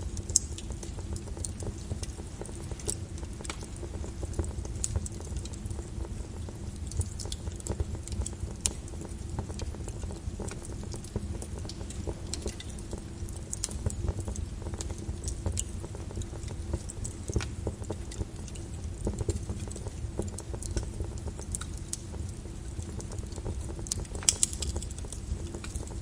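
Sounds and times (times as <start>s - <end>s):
flowing lava low rumble: 0.0s - 26.0s
lava crust crackling and clinking: 0.0s - 26.0s.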